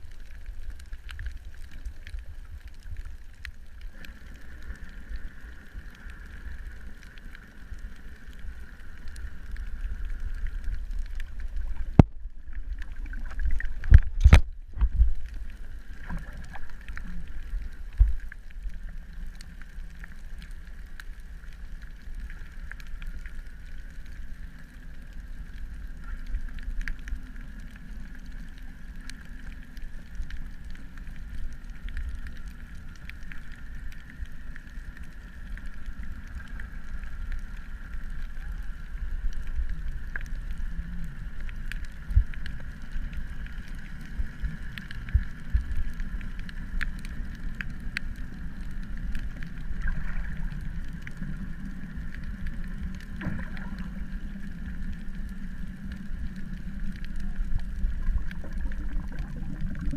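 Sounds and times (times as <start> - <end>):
underwater low rumble: 0.0 - 59.9.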